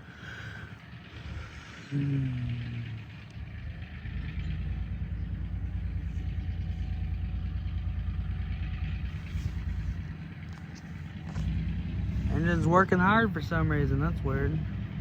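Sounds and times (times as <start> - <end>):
diesel locomotive engine: 0.0 - 15.0.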